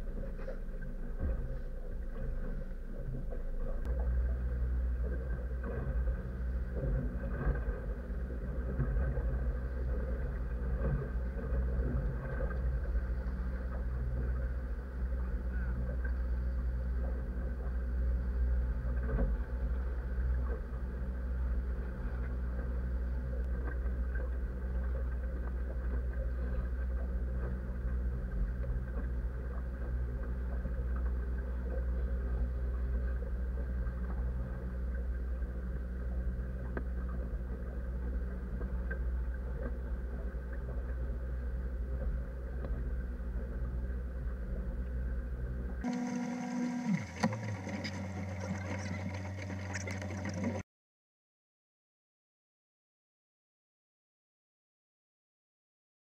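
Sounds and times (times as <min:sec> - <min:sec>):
motorboat engine drone: 0:00.0 - 0:50.6.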